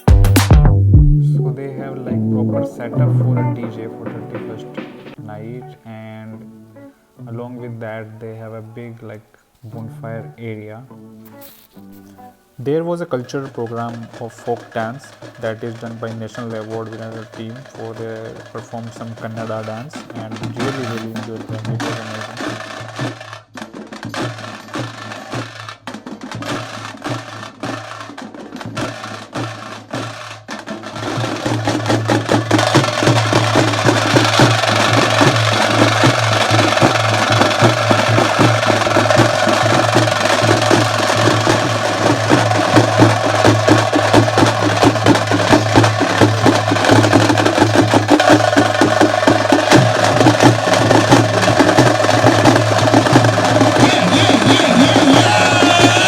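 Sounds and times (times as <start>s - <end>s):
folk drum ensemble drumming: 0.0s - 6.2s, 13.2s - 56.0s.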